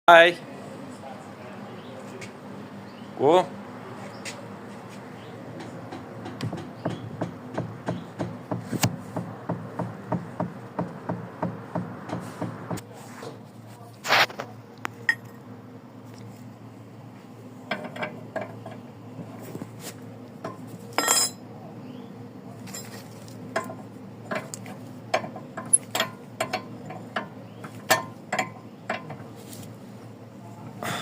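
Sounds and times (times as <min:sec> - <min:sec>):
steady low hum: 0:00.3 - 0:31.0.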